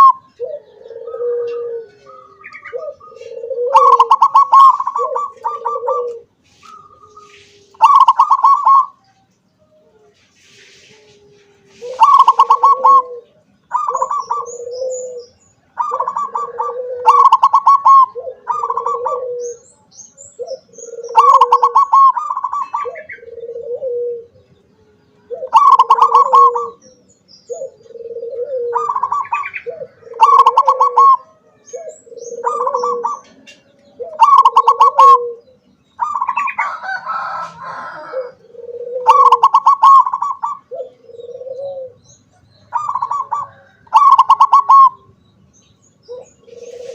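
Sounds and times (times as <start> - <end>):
dove cooing: 0.0 - 45.2, 45.9 - 46.9.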